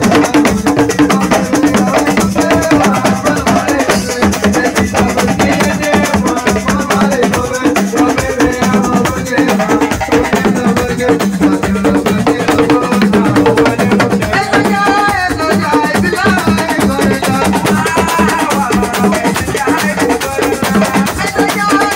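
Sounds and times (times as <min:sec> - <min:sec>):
live band with hand percussion: 0:00.0 - 0:21.9.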